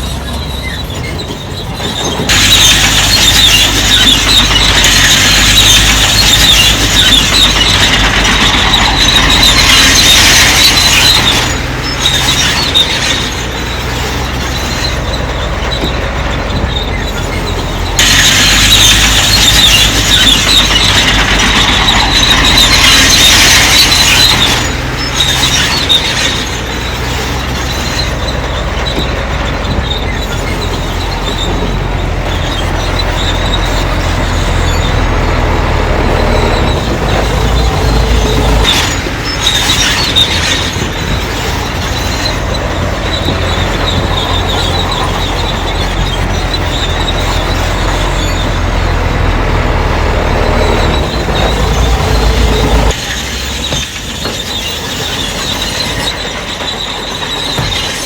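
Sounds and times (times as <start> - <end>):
diesel engine running: 0.0 - 58.0
steel tracks squealing and grinding: 0.0 - 58.0.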